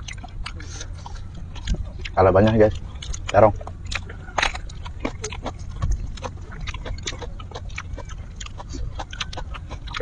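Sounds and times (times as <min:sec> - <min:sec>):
low rumble: 0:00.0 - 0:10.0
wet chewing and lip-smacking: 0:00.0 - 0:10.0.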